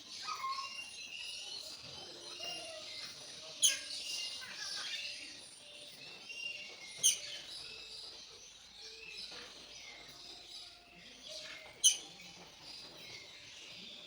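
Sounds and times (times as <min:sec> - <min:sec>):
many birds chirping: 0:00.0 - 0:14.0.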